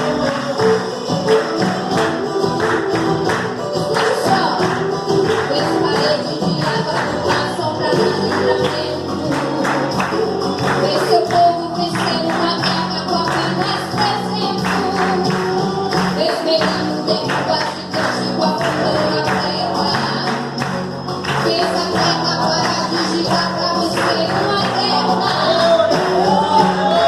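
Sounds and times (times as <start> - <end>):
band playing worship music: 0.0 - 27.0
held bass and keyboard notes: 0.0 - 27.0.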